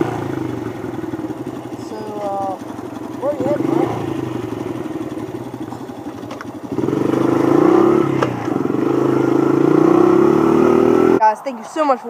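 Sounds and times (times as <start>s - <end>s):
dirt bike engine revving: 0.0s - 11.4s.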